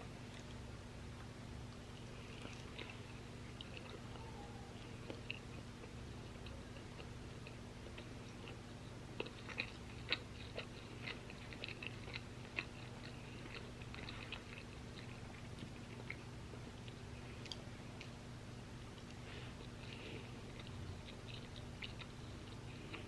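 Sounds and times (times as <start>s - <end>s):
faint low hum: 0.0s - 23.0s
person chewing crunchy food: 0.2s - 0.7s, 1.7s - 23.0s.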